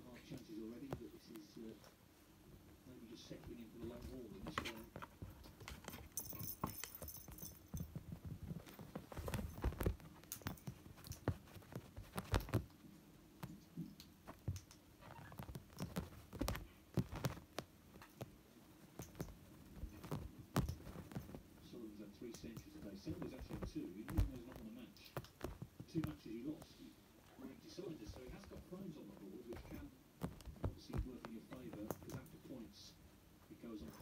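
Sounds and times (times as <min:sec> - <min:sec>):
kitten thumping and scratching: 0:03.4 - 0:21.6, 0:22.2 - 0:26.7, 0:27.8 - 0:32.6.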